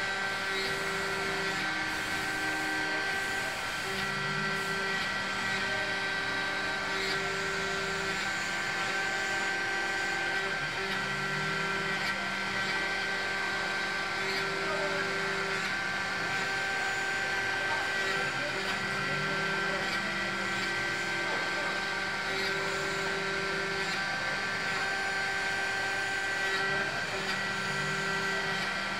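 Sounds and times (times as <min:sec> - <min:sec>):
milling machine whine: 0:00.0 - 0:28.9.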